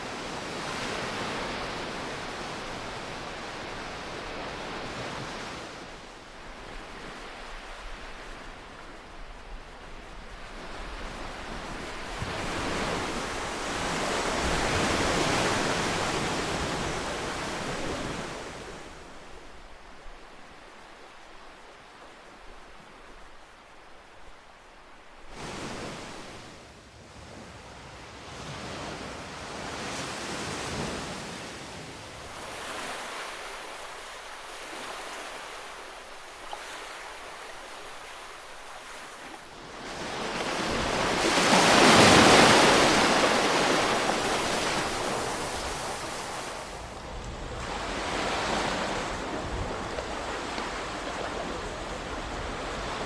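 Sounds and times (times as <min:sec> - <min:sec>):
ocean surf washing ashore: 0:00.0 - 0:53.0.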